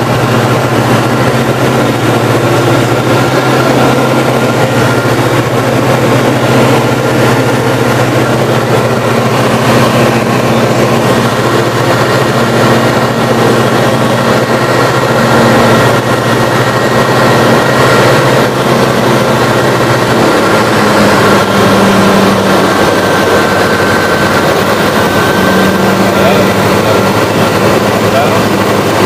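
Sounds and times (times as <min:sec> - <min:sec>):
light aircraft engine drone: 0:00.0 - 0:29.0.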